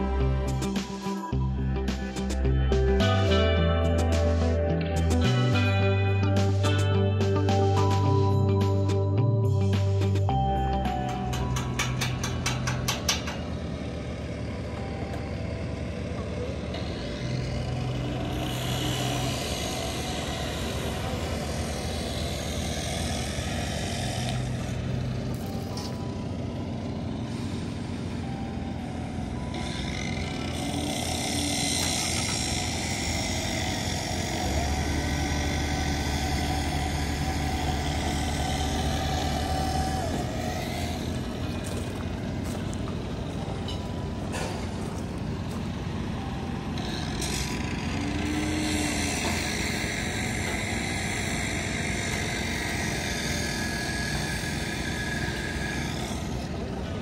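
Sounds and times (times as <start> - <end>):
large engine running: 0.0 - 57.0.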